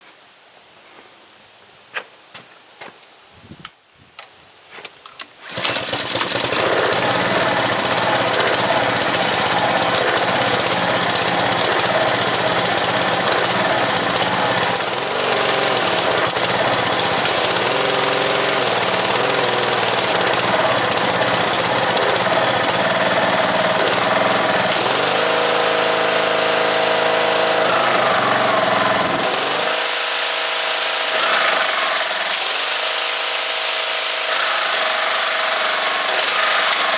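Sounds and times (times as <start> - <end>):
pressure washer engine running: 5.5 - 36.9.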